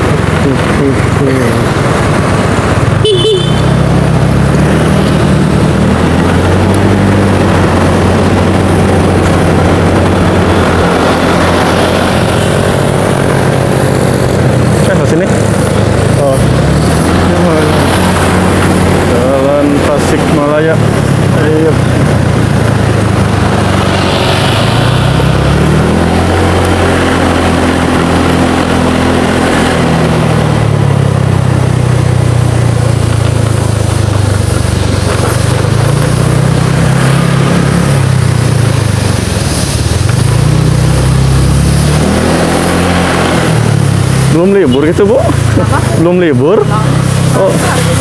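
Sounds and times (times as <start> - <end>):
road noise: 0.0 - 48.0
scooter engine revving: 0.0 - 48.0.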